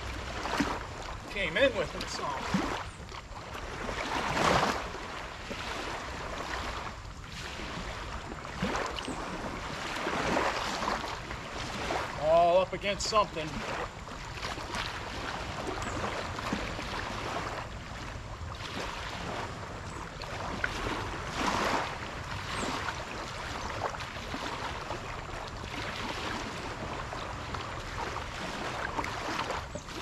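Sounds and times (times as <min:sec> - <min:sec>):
small waves lapping: 0:00.0 - 0:30.0
wind: 0:00.0 - 0:30.0.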